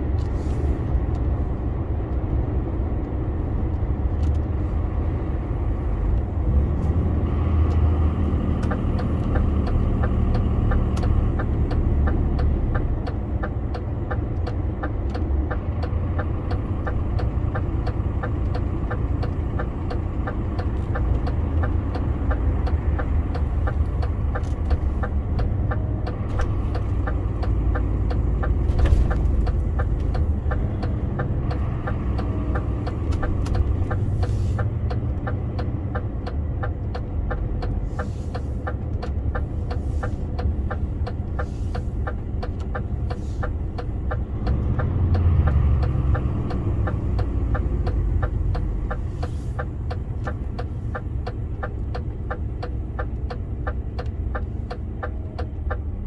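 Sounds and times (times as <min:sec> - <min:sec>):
diesel truck engine running: 0:00.0 - 0:56.0
light ticking: 0:07.6 - 0:56.0.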